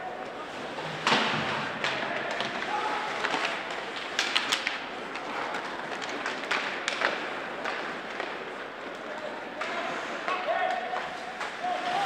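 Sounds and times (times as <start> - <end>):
sticks and puck clacking: 0.0 - 12.0.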